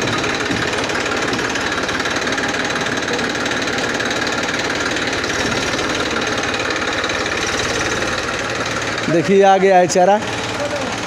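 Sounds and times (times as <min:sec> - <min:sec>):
tractor diesel engine clattering: 0:00.0 - 0:11.0.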